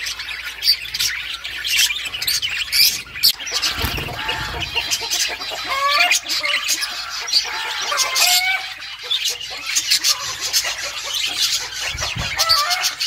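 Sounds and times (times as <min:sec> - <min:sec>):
parrots chattering: 0:00.0 - 0:13.0.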